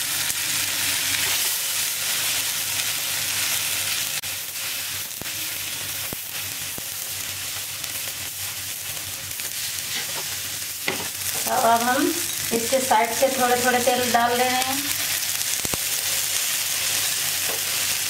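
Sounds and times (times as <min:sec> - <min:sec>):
oil sizzling on a griddle: 0:00.0 - 0:18.0.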